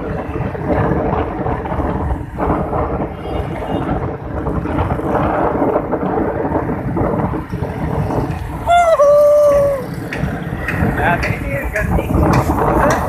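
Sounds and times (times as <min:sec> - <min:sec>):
motorcycle engine humming: 0:00.0 - 0:13.0
wind rumbling on microphone: 0:00.0 - 0:13.0.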